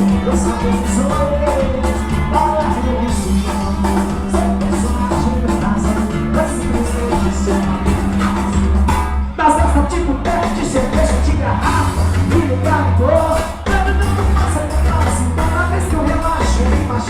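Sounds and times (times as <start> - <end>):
live band playing party music: 0.0 - 17.0
person singing: 0.0 - 17.0.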